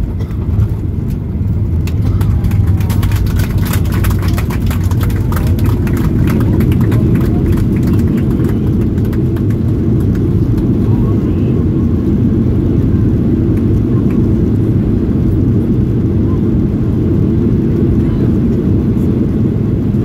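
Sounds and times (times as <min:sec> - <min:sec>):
deep aircraft cabin rumble: 0:00.0 - 0:20.0.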